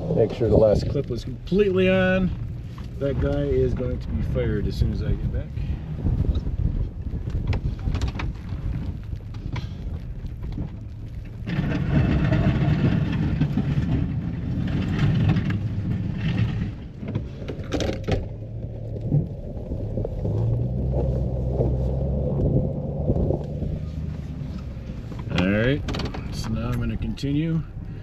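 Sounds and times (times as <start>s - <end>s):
pickup truck engine running: 0.0s - 28.0s.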